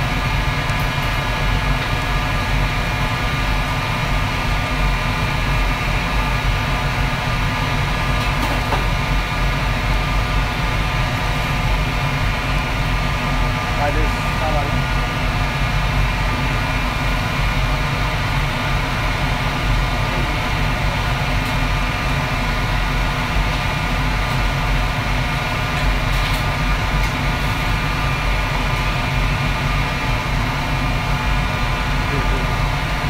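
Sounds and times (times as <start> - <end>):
extractor hood fan humming: 0.0 - 33.0
gas wok burner roaring: 0.0 - 33.0.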